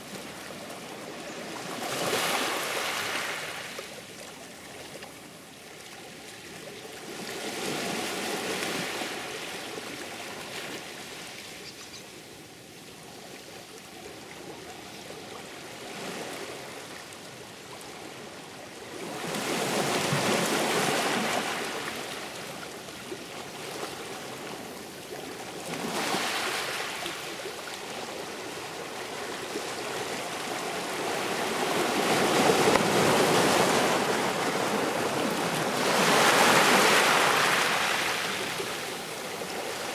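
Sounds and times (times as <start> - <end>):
sea waves washing on shore: 0.0 - 11.4, 14.1 - 39.9.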